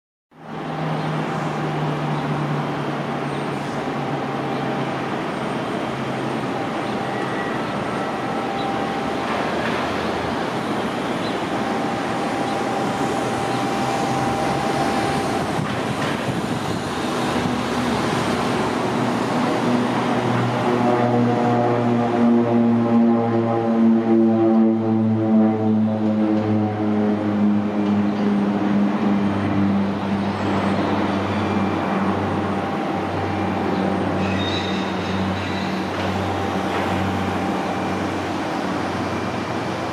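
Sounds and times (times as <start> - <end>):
turboprop engines at takeoff: 0.4 - 39.9.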